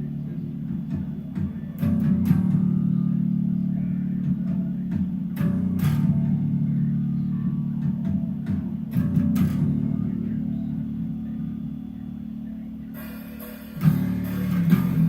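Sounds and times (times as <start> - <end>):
electric bass guitar low notes: 0.0 - 15.0.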